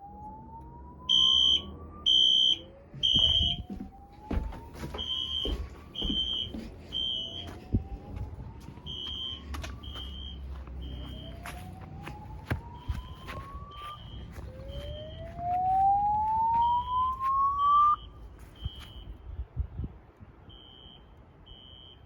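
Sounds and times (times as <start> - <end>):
high-pitched alarm beeping: 1.1 - 19.2.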